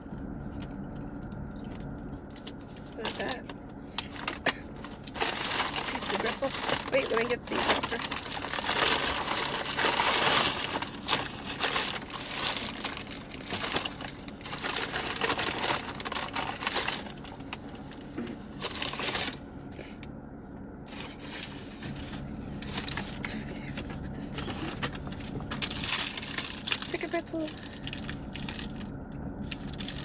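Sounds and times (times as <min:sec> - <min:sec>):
paper bag rustling and crinkling: 0:02.9 - 0:19.4, 0:20.9 - 0:30.0.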